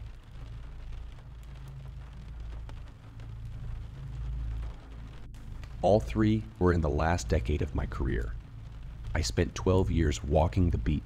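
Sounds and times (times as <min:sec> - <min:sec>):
low steady rumble: 0:00.0 - 0:11.0
rain falling: 0:00.0 - 0:11.0.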